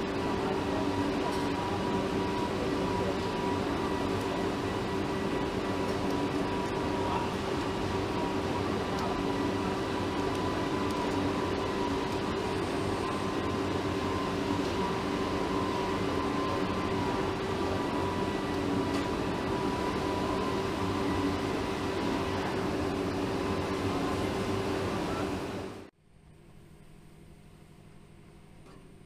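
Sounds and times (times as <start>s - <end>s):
machinery drone: 0.0s - 25.9s.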